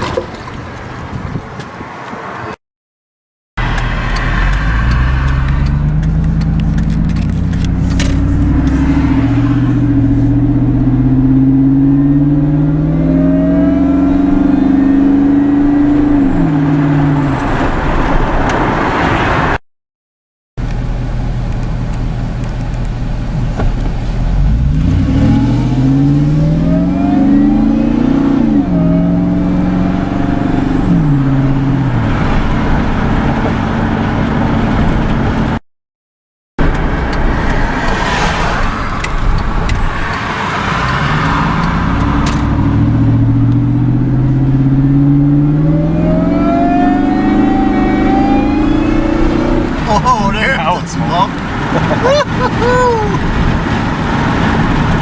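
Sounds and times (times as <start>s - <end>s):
engine accelerating hard: 3.6s - 19.6s, 20.6s - 35.6s, 36.6s - 55.0s.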